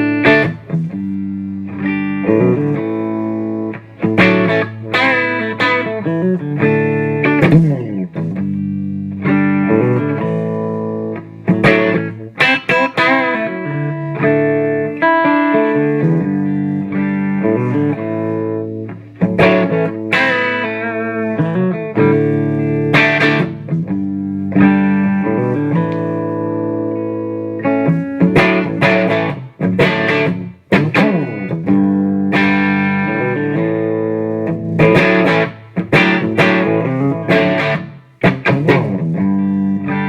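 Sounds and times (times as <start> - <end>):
electric guitar strummed chords: 0.0 - 40.0
guitar downward slide: 0.0 - 40.0.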